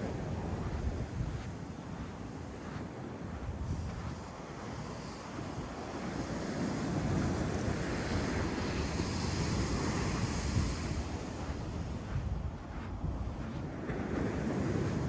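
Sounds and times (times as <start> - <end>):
ocean surf washing ashore: 0.0 - 15.0
wind buffeting microphone: 0.0 - 15.0.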